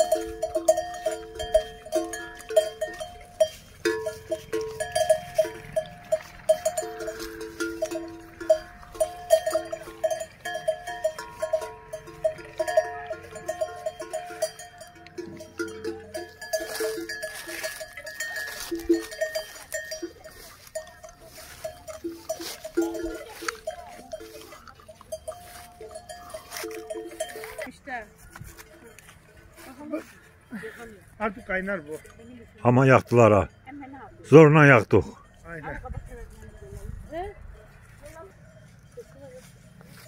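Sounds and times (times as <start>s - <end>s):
cow bell clanking: 0.0s - 40.0s.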